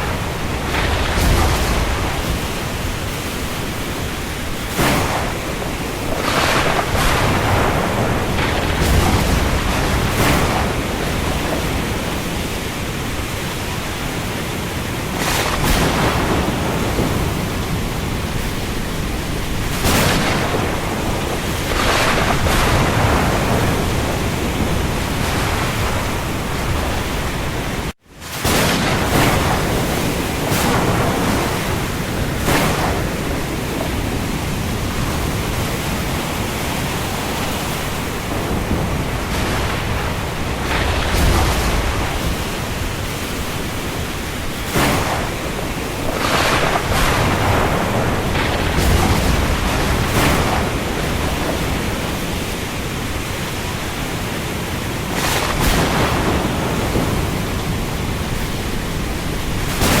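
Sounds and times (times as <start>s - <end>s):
heavy rain on the sea: 0.0s - 60.0s.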